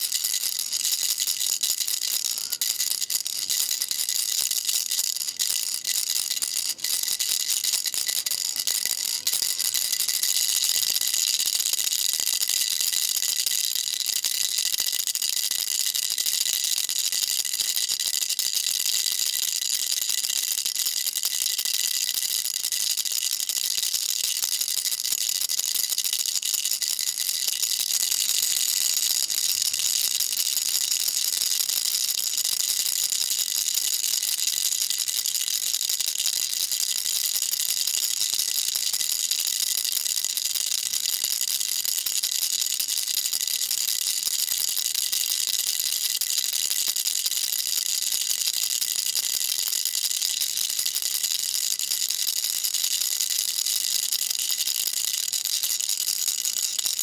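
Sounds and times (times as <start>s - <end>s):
baby rattle shaking: 0.0s - 14.8s, 23.5s - 54.7s.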